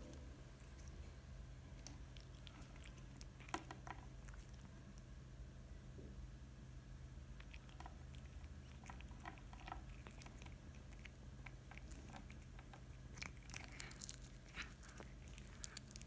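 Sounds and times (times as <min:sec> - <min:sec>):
cat chewing food: 0:00.0 - 0:05.3, 0:07.3 - 0:16.0
low steady hum: 0:00.0 - 0:16.0.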